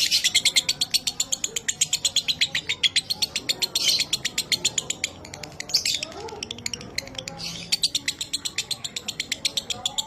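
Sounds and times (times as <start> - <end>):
lovebird chattering trill: 0.0 - 10.0.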